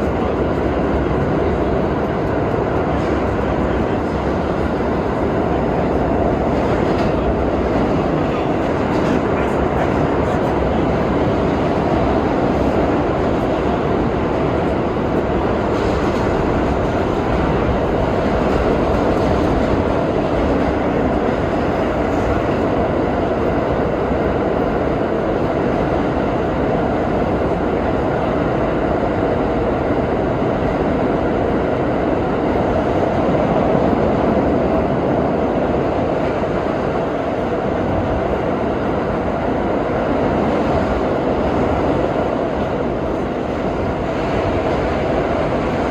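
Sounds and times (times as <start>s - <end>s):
subway train wheels on rail: 0.0s - 45.9s.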